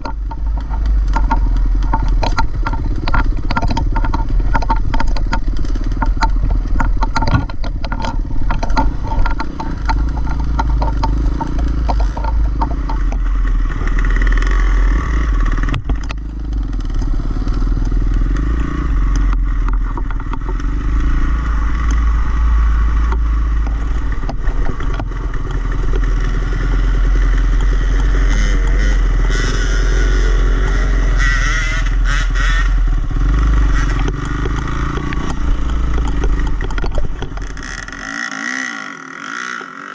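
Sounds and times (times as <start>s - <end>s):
bike clattering on rough trail: 0.0s - 39.9s
dirt bike engine revving: 0.0s - 39.9s.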